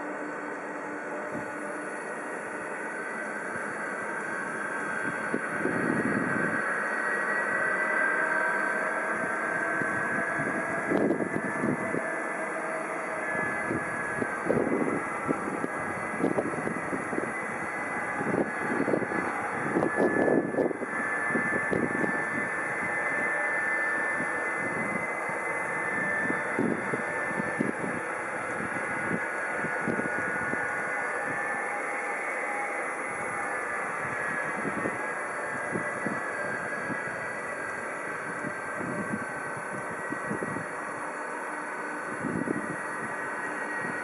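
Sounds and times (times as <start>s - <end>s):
jet engines whining and rumbling: 0.0s - 44.0s.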